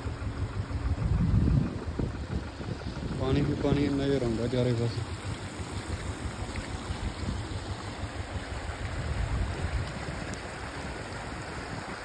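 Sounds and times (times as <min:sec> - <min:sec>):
floodwater rushing: 0:00.0 - 0:12.0
wind buffeting microphone: 0:00.0 - 0:12.0.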